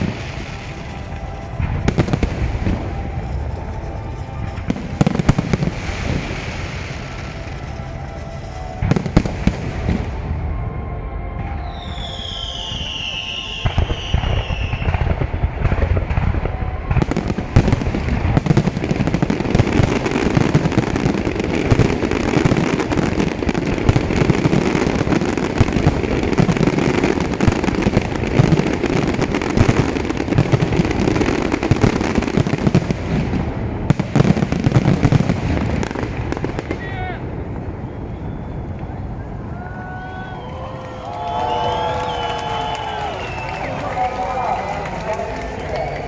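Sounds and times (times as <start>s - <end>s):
descending firework whistle: 0.0s - 46.0s
fireworks bangs and crackling: 0.0s - 46.0s.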